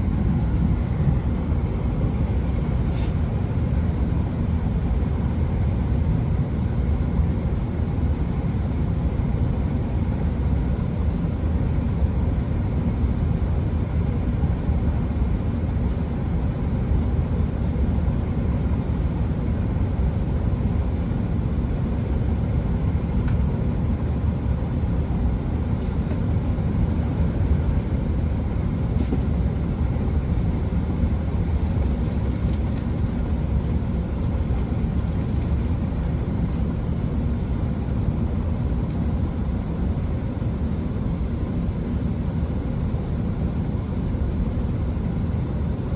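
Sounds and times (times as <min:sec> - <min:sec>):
train engine and wheels rumbling: 0:00.0 - 0:45.9.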